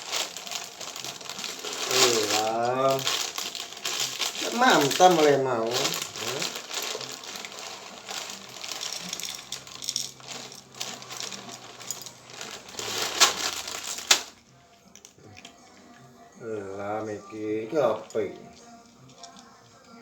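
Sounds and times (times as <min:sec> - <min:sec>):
dry cat food rattling: 0:00.0 - 0:14.4, 0:17.9 - 0:20.0.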